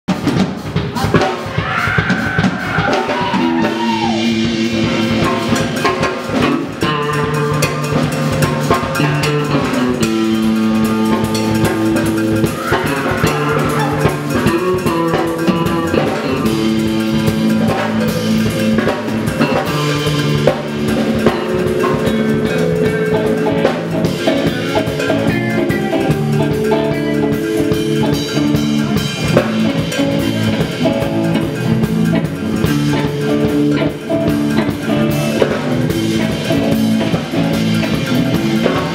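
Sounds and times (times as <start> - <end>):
rock band playing live: 0.1 - 38.9.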